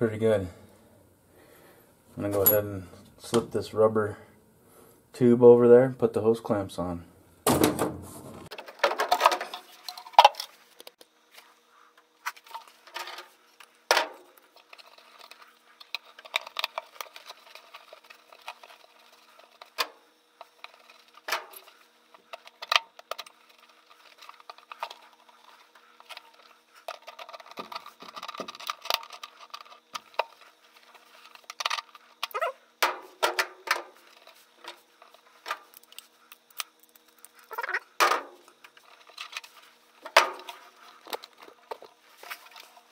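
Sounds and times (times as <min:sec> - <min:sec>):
clicks scrapes and rustling: 0:08.5 - 0:42.9.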